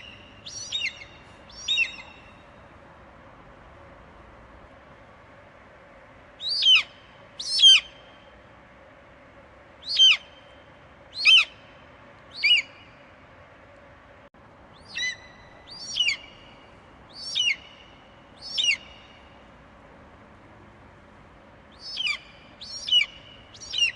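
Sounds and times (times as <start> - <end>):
faint steady hiss: 0.0 - 23.9.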